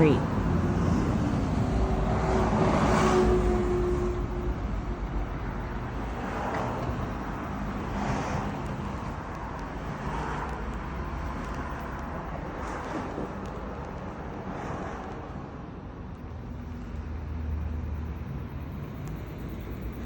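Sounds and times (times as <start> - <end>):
road traffic rumble: 0.0 - 20.0
vehicles passing: 0.0 - 20.0.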